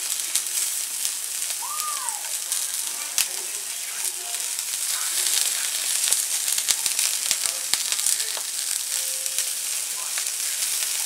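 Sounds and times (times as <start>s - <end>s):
sharp crackles: 0.0s - 11.0s
shrimp sizzling in frying pan: 0.0s - 11.0s.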